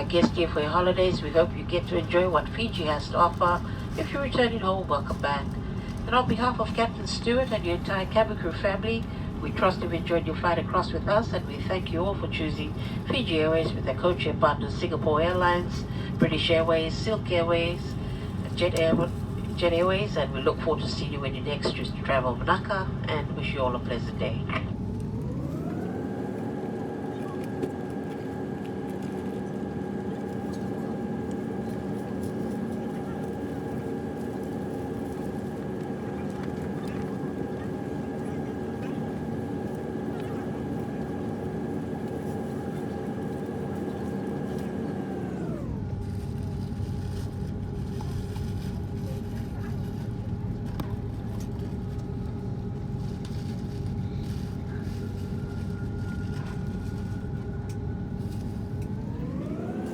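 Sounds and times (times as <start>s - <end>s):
jet engines humming and whining: 0.0s - 59.9s.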